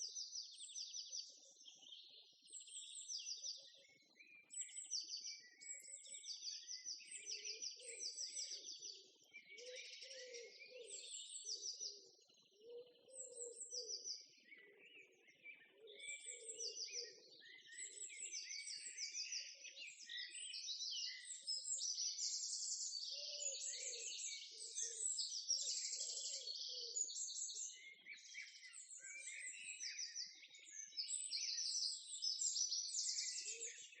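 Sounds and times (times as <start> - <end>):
songbirds trilling and chirping: 0.0 - 34.0.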